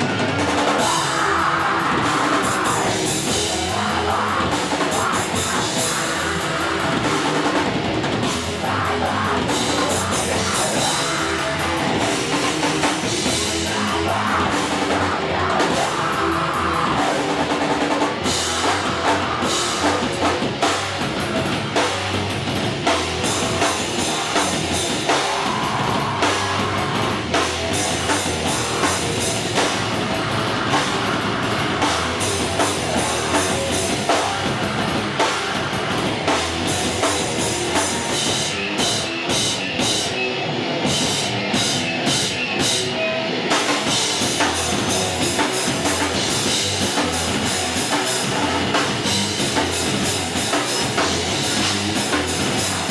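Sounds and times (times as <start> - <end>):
distorted electric guitars: 0.0 - 52.9
drum kit beat: 0.0 - 52.9.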